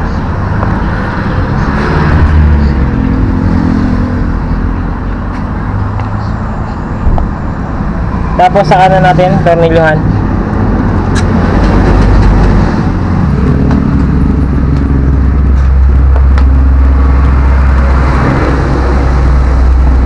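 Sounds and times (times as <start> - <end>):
road traffic engine rumble: 0.0 - 20.0.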